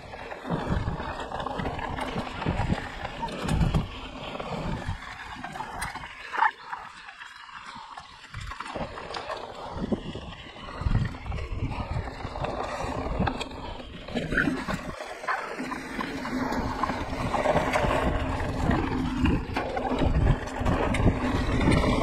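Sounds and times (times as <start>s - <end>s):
bike rattling over bumps: 0.0s - 22.0s
bike tyres rolling on rough ground: 0.0s - 22.0s.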